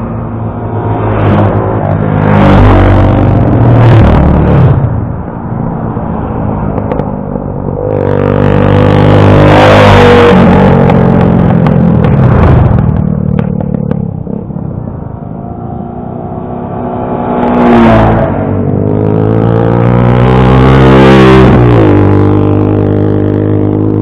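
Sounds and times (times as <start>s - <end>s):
motorcycle engines passing: 0.0s - 24.0s.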